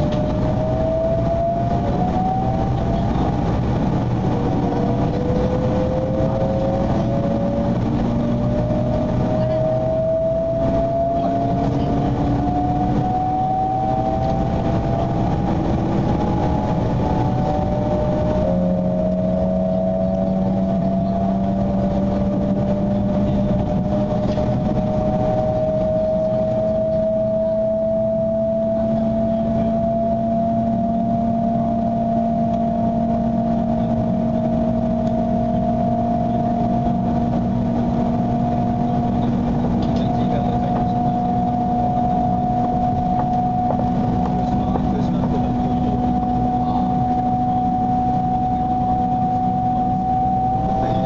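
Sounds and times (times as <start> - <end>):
train motors whining: 0.0 - 51.0
train rumble: 0.0 - 51.0.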